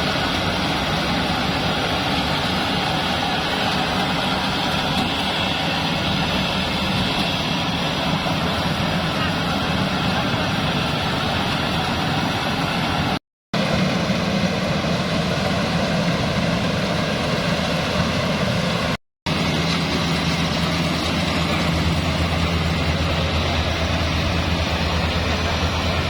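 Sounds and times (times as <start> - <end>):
threshing machine engine drone: 0.0 - 26.0.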